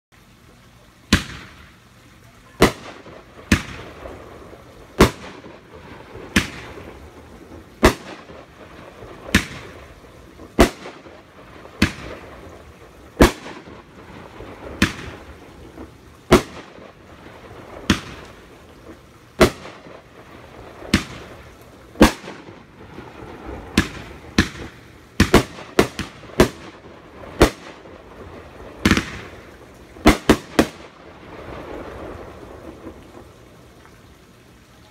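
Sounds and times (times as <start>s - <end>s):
fireworks crackle: 0.4s - 34.6s
fireworks bangs: 1.1s - 1.8s, 2.4s - 33.4s.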